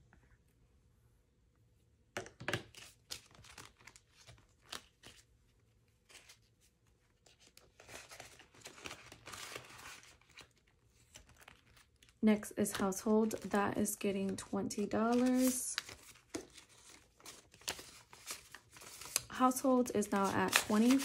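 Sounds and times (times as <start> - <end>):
paper money rustling and crinkling: 2.7 - 21.0.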